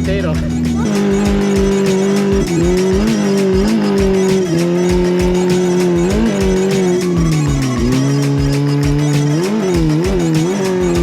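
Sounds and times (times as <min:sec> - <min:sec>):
background music with steady beat: 0:00.0 - 0:11.0
car engine at high revs: 0:00.0 - 0:11.0.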